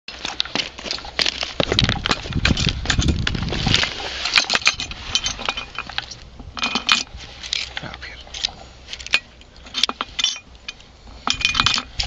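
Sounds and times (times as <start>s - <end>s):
footsteps crunching on ballast: 0.1s - 10.1s
loose stones clicking: 0.1s - 12.0s.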